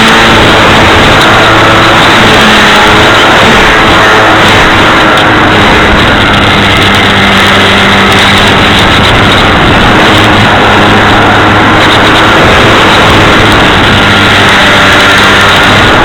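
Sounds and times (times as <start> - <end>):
model plane motor: 0.0 - 16.0
wind rushing over microphone: 0.0 - 16.0.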